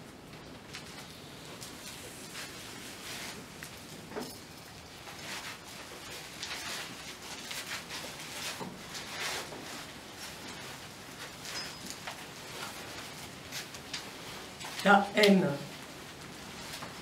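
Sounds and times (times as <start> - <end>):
clothing rustling: 0.8 - 14.9.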